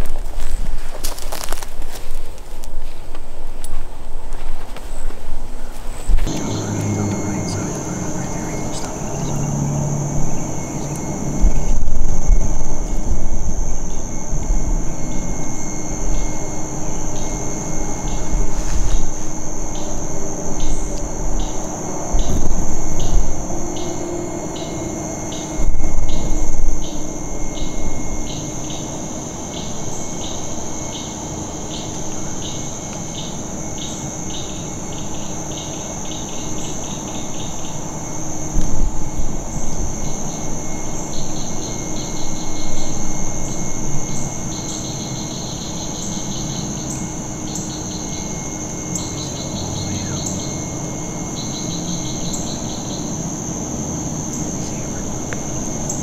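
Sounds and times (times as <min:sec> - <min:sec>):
insects chirping: 0:00.0 - 0:56.0
low rumbling background noise: 0:00.0 - 0:56.0
steady high buzz: 0:00.0 - 0:56.0.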